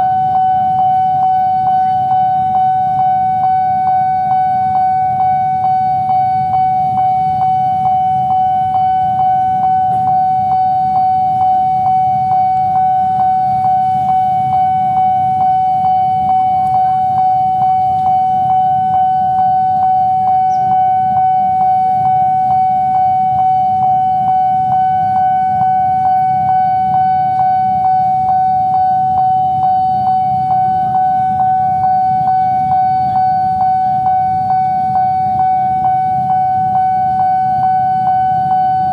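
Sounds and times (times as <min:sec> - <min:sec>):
low steady rumble: 0:00.0 - 0:38.9
railroad crossing bell ringing: 0:00.0 - 0:38.9.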